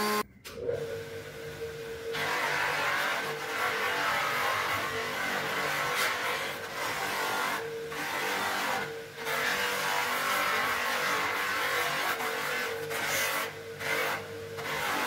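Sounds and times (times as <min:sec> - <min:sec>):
polishing machine motor hum: 0:00.0 - 0:15.0.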